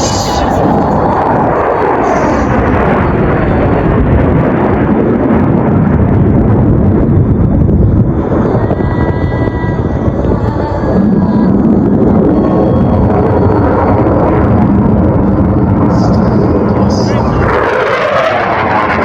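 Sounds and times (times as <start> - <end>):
jet aircraft passing overhead: 0.0 - 19.0.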